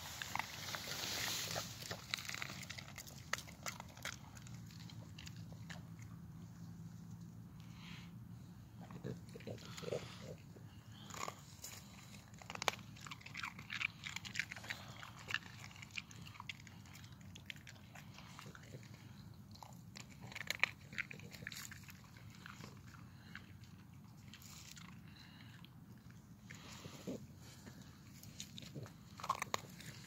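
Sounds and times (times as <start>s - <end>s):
dog crunching ice: 0.0s - 6.0s, 10.9s - 27.3s, 28.0s - 30.0s.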